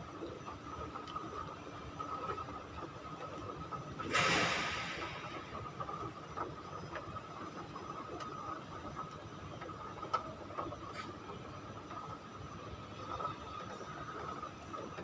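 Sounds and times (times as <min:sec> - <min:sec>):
indoor hum with high tone: 0:00.0 - 0:15.0.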